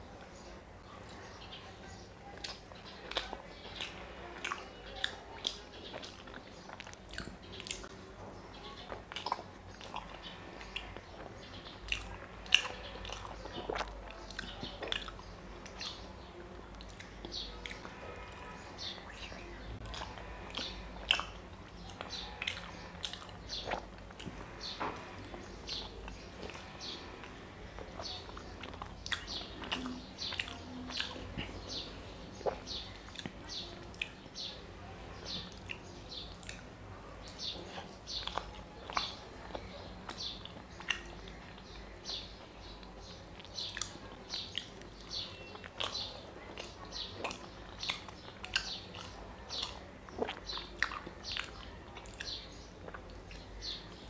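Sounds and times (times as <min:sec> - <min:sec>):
wet chewing and lip smacking: 0:02.3 - 0:34.4, 0:35.3 - 0:54.0.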